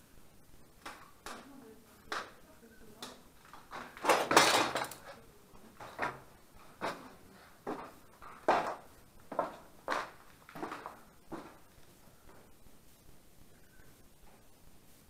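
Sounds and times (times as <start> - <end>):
footsteps indoors: 0.6 - 13.3, 14.1 - 14.7.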